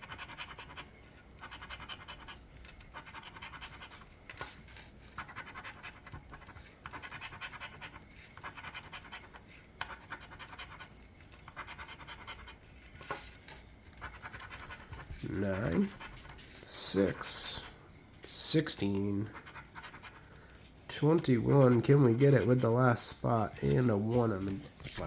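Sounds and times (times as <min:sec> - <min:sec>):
scratching lottery ticket: 0:00.0 - 0:25.0.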